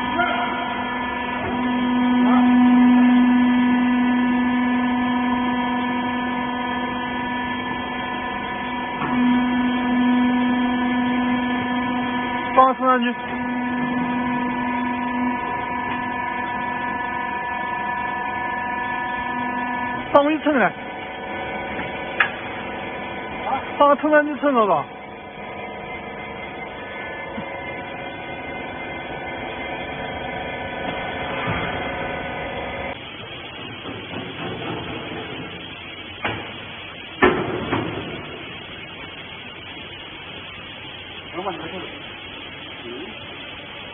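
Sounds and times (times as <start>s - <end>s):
motor and pump humming: 0.0s - 43.9s.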